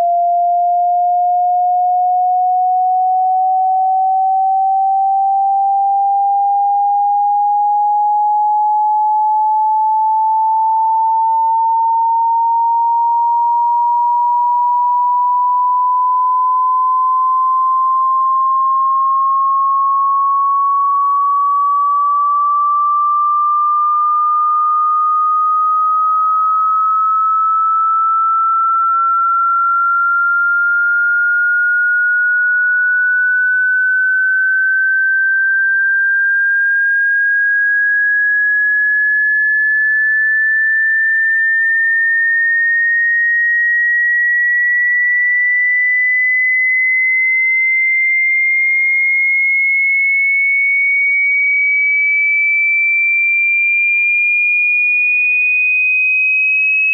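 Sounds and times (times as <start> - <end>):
sine-wave tone rising in pitch: 0.0 - 56.9.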